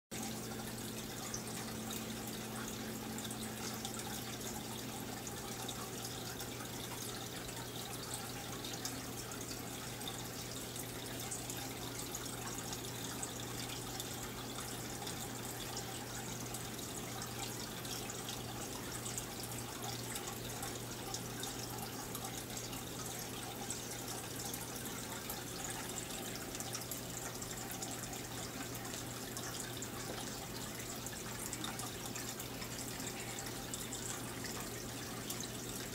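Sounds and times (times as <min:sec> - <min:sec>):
aquarium water bubbling: 0:00.1 - 0:35.9
low steady hum: 0:00.1 - 0:35.9.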